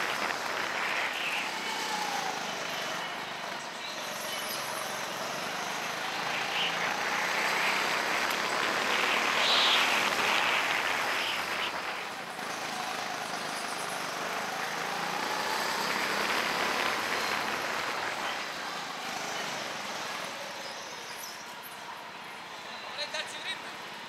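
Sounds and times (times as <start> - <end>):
go-kart driving rushing noise: 0.0 - 21.1.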